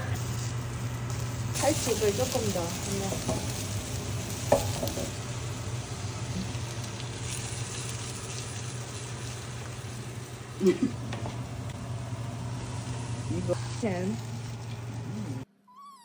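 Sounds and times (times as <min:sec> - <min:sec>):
food sizzling in a pan: 0:00.0 - 0:15.4.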